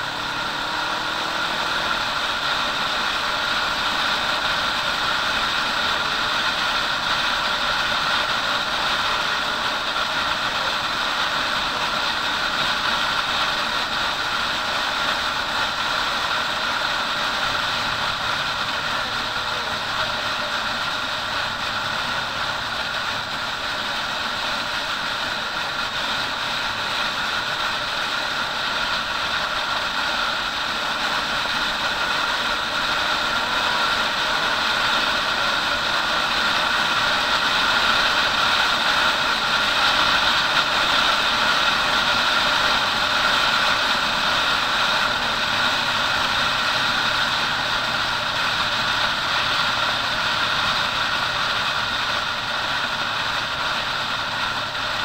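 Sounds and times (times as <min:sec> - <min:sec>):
motorcycle engine drone: 0:00.0 - 0:55.0
wind and road noise: 0:00.0 - 0:55.0.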